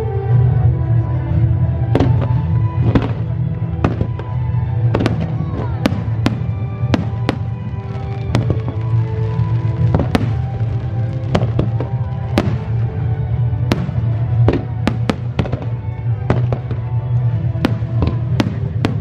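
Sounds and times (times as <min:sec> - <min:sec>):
music: 0:00.0 - 0:19.0
fireworks bangs: 0:01.9 - 0:19.0.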